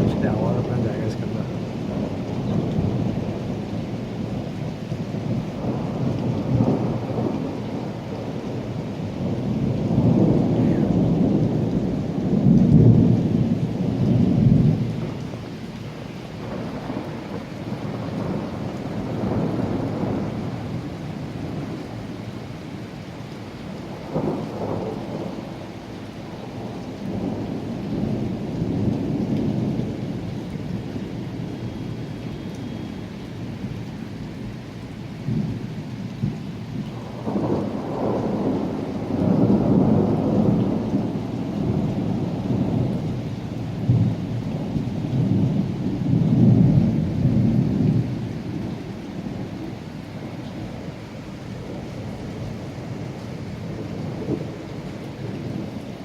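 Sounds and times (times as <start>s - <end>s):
low rolls of thunder: 0.0s - 56.0s
rain falling: 0.0s - 56.0s.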